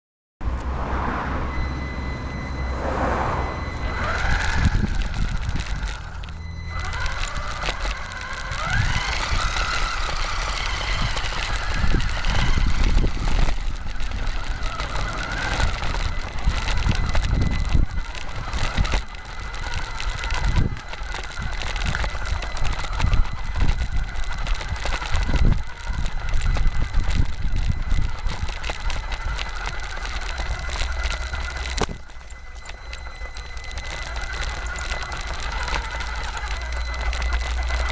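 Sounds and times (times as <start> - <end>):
toy car motor whining: 0.8 - 37.9
rumbling and knocking on rough ground: 3.5 - 37.9.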